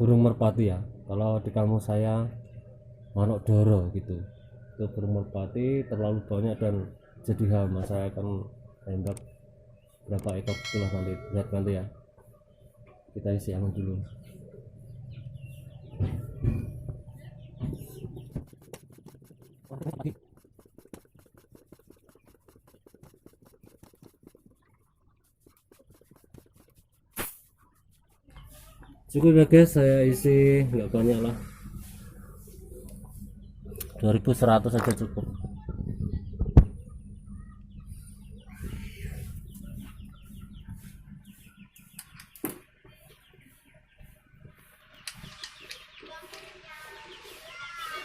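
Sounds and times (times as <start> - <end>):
birds clucking chirps: 0.1 - 48.0.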